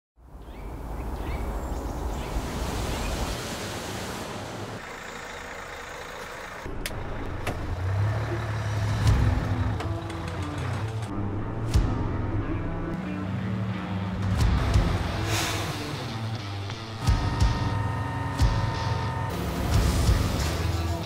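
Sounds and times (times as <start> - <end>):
passing traffic rush: 0.6 - 11.1, 12.9 - 21.0.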